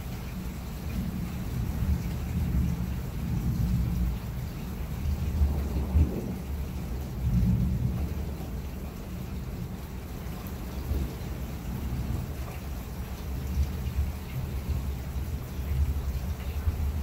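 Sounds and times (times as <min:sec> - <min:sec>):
faint rain hiss: 0:00.0 - 0:17.0
rolling thunder: 0:00.9 - 0:17.0.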